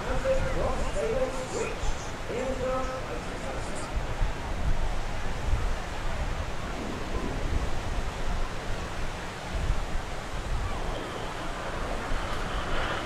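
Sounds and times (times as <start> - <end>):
beach surf: 0.0 - 13.0
wind buffeting microphone: 0.0 - 13.0.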